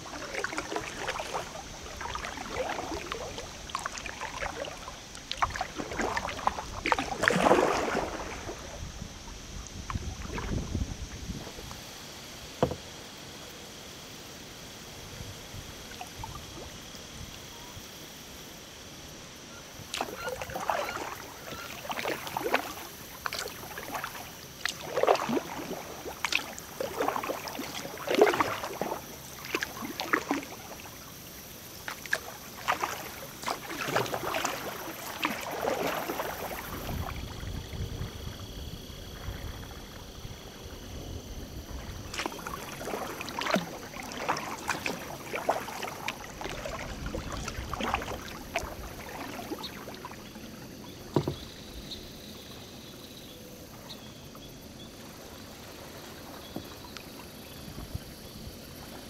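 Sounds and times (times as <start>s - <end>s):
paddle splashing in water: 0.0s - 13.0s, 19.8s - 59.0s.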